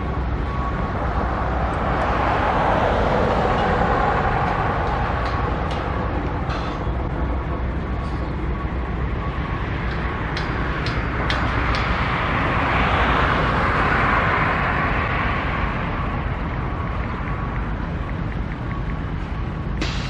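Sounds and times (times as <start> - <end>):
traffic-like rumble: 0.0 - 20.0.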